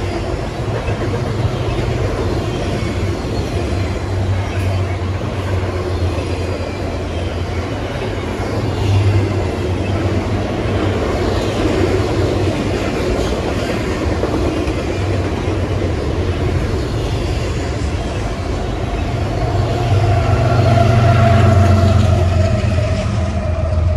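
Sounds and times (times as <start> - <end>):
freight train wheels rumbling: 0.0 - 23.9.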